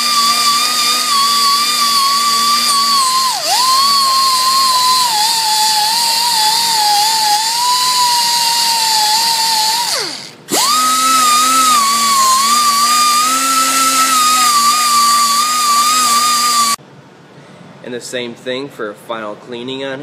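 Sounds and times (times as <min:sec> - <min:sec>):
die grinder whining: 0:00.0 - 0:16.8.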